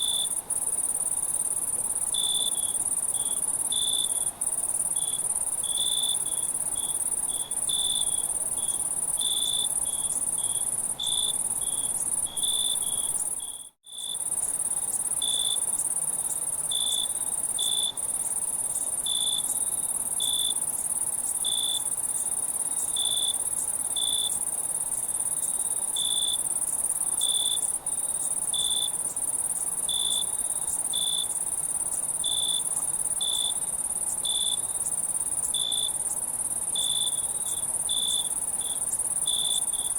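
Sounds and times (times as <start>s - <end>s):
cricket chirps: 0.0s - 39.9s
high-pitched insect trill: 0.0s - 39.9s.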